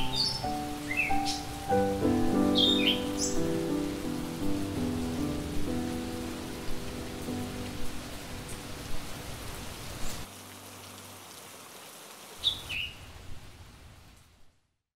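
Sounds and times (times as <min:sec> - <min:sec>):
rain falling: 0:00.0 - 0:14.8.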